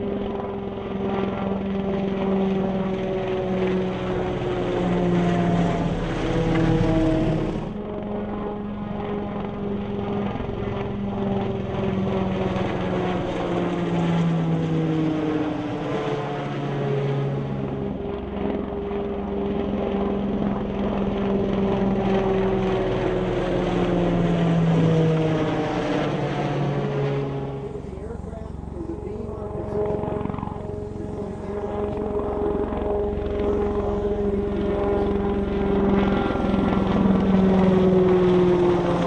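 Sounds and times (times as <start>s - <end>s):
helicopter flying past: 0.0s - 39.0s.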